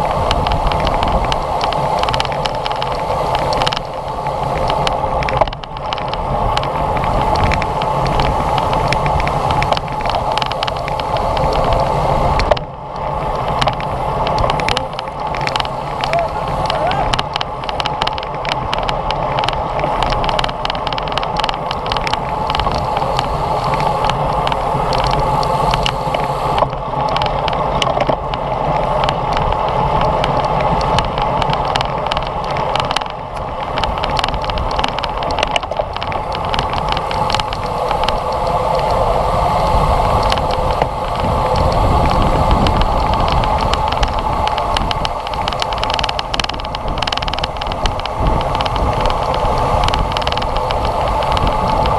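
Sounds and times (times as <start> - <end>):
road rumble: 0.0 - 51.9
wind rushing over microphone: 0.0 - 51.9.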